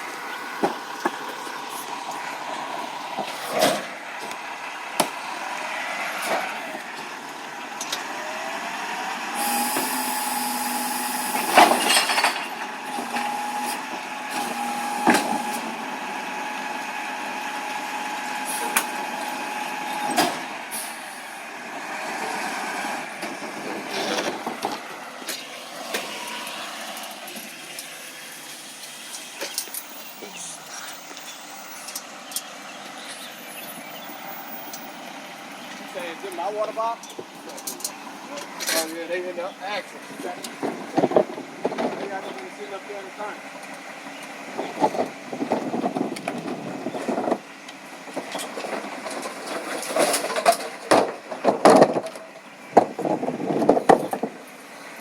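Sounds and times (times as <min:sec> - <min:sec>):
truck mechanical whine: 0:00.0 - 0:55.0.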